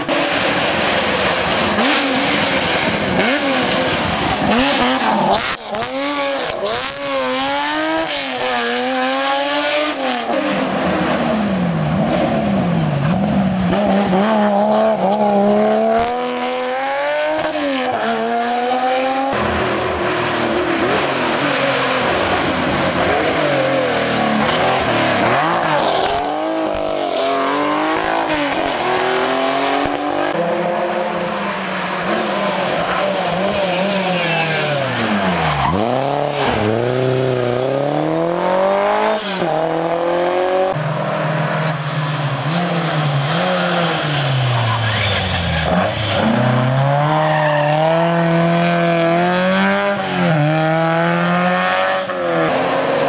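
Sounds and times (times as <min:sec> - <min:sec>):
rally car engines revving hard: 0:00.0 - 0:53.0.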